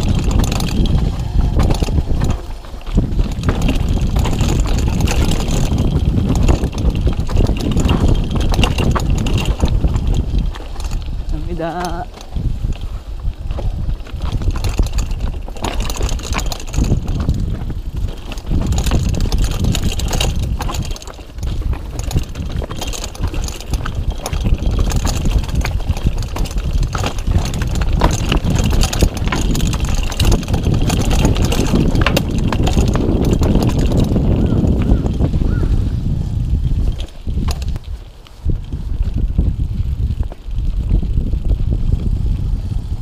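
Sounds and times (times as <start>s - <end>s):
mountain bike rattling over rocks: 0.0s - 43.0s
wind on microphone: 0.0s - 43.0s.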